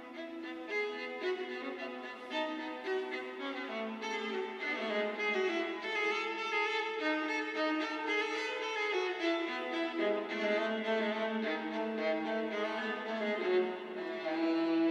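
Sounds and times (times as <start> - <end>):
solo violin melody: 0.0 - 14.9.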